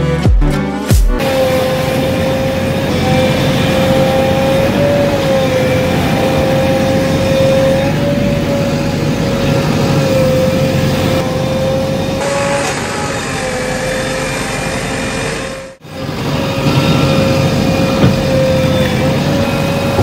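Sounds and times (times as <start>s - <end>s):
diesel engine running with whine: 0.0s - 20.0s.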